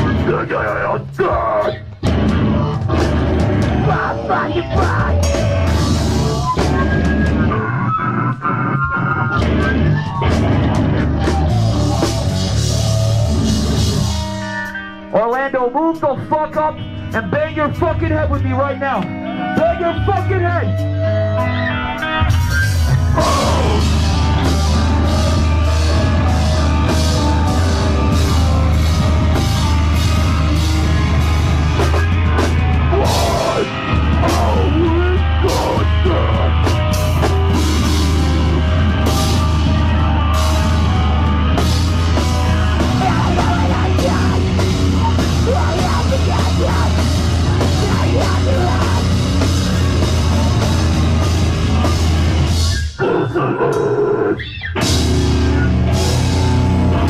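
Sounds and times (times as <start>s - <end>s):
live heavy rock band playing: 0.0s - 57.0s.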